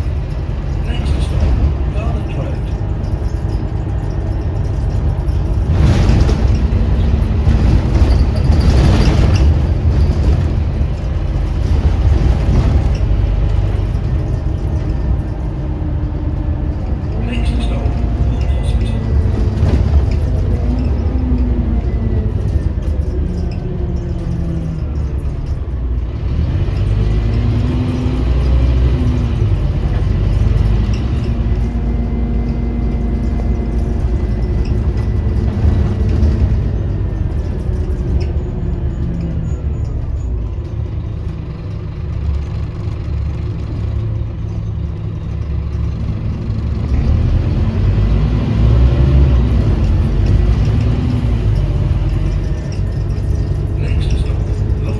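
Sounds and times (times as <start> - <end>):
bus diesel engine: 0.0 - 54.9
road rumble: 0.0 - 54.9.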